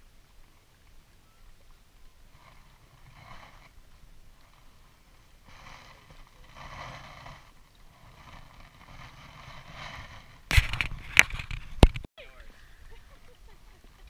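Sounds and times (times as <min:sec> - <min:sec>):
small waves lapping on rocks: 0:00.0 - 0:11.5
wind on microphone: 0:01.1 - 0:13.8.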